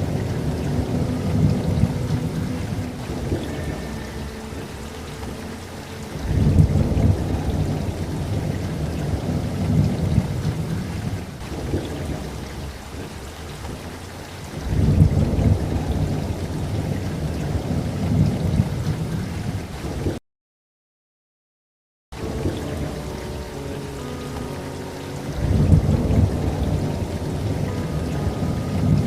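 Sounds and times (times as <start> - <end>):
steady rain: 0.0 - 20.2, 22.1 - 29.0
thunder rumbling: 0.0 - 20.2, 22.2 - 29.0.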